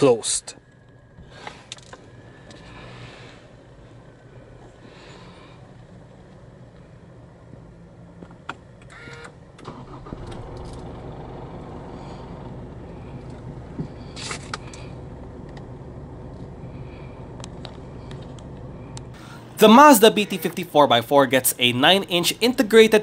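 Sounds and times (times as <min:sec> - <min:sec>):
diesel engine cranking and idling: 0:00.0 - 0:23.0.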